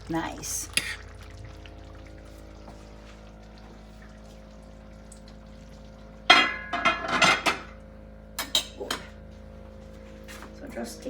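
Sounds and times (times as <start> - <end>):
pot simmering in thick gravy: 0.0 - 10.2
low hum: 0.0 - 10.3.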